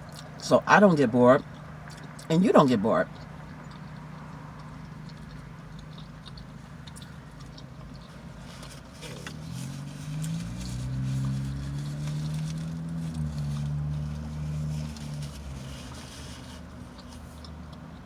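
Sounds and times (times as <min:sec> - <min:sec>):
vehicle engine drone: 0:00.0 - 0:18.0
small clicks and crackles: 0:03.1 - 0:18.0.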